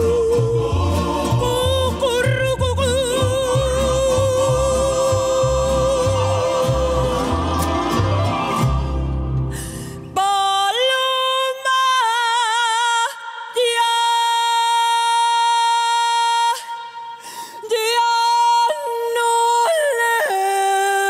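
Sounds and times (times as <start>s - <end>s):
woman singing with vibrato: 0.0s - 8.1s, 10.1s - 21.0s.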